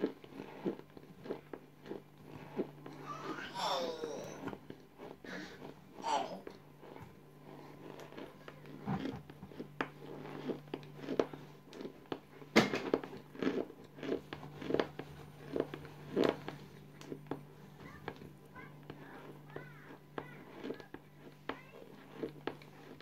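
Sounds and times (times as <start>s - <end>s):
chewing crunchy food: 0.0s - 23.0s.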